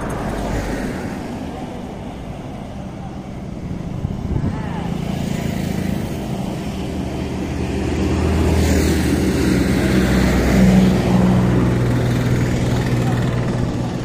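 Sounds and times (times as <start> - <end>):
vehicle engine running: 1.5 - 14.0.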